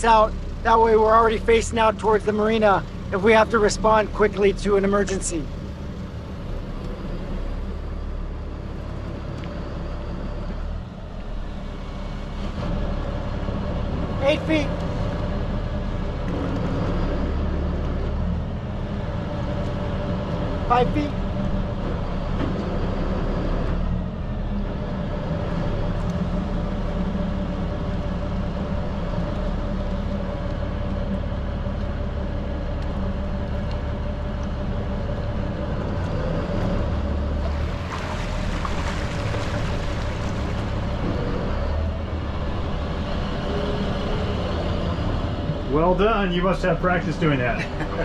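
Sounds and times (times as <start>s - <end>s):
boat engines running low: 0.0s - 48.0s.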